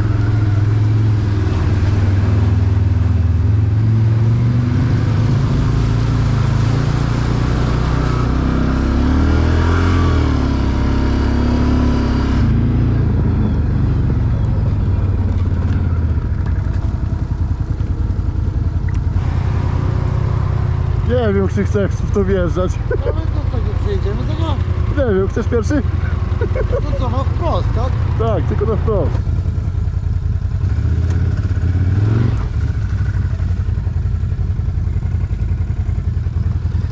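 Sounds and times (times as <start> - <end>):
quad engine running: 0.0 - 36.9.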